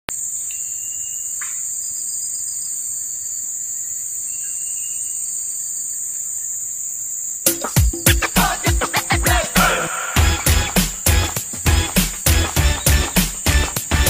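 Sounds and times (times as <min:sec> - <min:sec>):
forest insects droning: 0:00.1 - 0:14.0.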